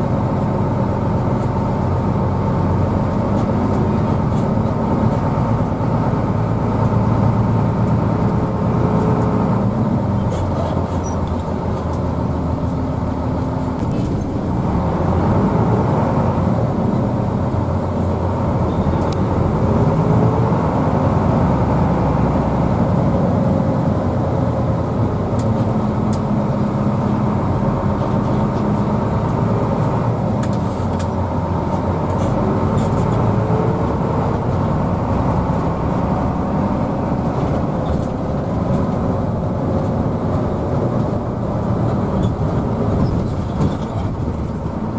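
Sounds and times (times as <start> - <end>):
bus diesel engine running: 0.0 - 44.9
road noise: 0.0 - 44.9.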